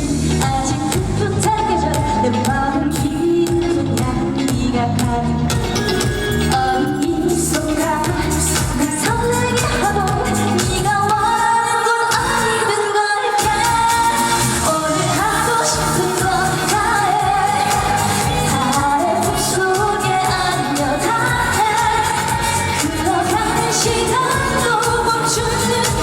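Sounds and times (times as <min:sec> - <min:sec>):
pop backing track with beat: 0:00.0 - 0:26.0
woman singing: 0:00.0 - 0:26.0.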